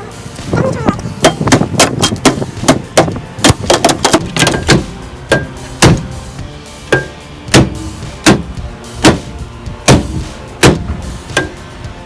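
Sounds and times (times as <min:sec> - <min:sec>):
hard blows on microwave casing: 0:00.2 - 0:12.0.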